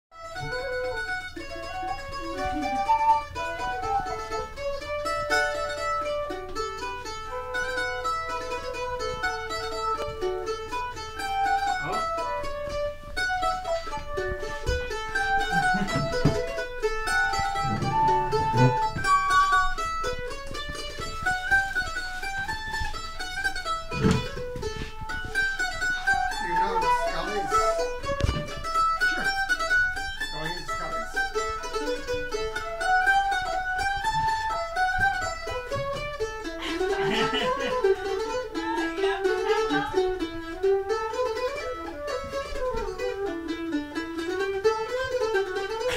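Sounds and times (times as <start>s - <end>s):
flute melody: 0.1s - 45.9s
plucked string instrument strumming: 0.1s - 45.9s.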